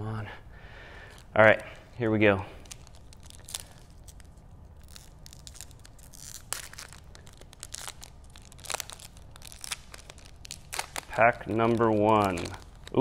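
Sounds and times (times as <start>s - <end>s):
foil wrapper tearing and crinkling: 2.5s - 13.0s.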